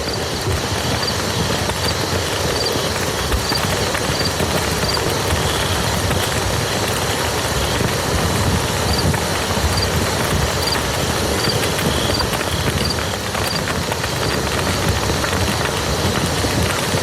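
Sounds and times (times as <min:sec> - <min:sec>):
rain on muddy field: 0:00.0 - 0:17.0.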